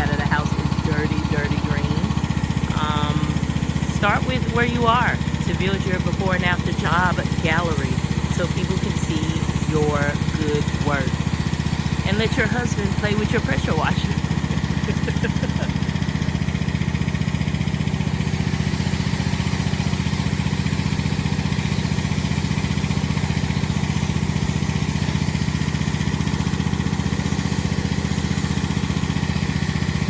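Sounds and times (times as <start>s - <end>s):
pressure washer engine running: 0.0s - 30.0s.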